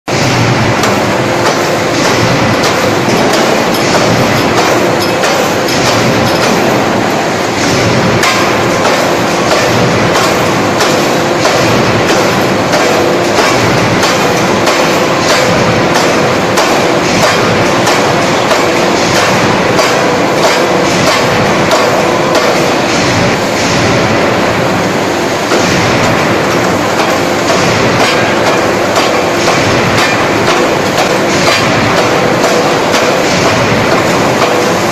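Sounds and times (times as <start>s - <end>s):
forging hammer heavy impacts: 0.1s - 34.9s
steady machine drone: 0.1s - 34.9s.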